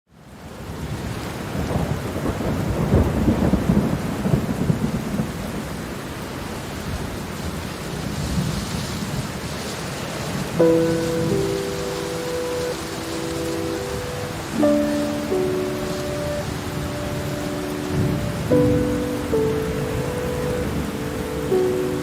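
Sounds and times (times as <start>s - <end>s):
steady rain: 0.1s - 22.0s
thunder rumbling: 1.6s - 5.9s, 7.9s - 22.0s.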